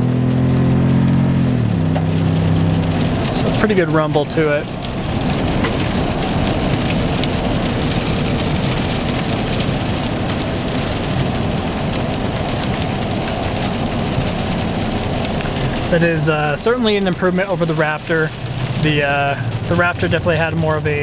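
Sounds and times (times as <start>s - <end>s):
rain on roof and windshield: 0.0s - 21.0s
truck engine low rumble: 0.0s - 21.0s.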